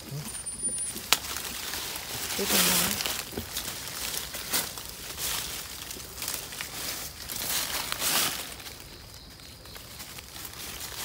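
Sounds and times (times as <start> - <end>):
dry leaves rustling and crunching: 0.0 - 11.0.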